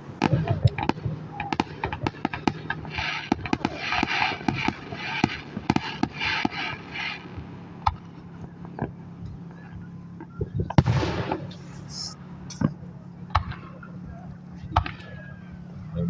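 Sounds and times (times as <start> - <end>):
fireworks bangs and pops: 0.0 - 15.7
fireworks crackling: 0.0 - 16.0.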